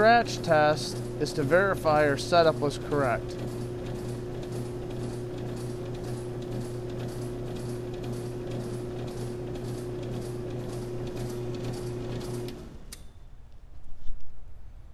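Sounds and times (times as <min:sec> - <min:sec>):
brake lathe motor hum: 0:00.0 - 0:13.0.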